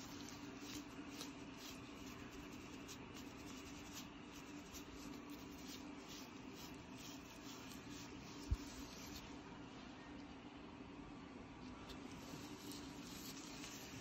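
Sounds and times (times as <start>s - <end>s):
comb scraping scalp: 0.0s - 9.4s, 11.9s - 14.0s.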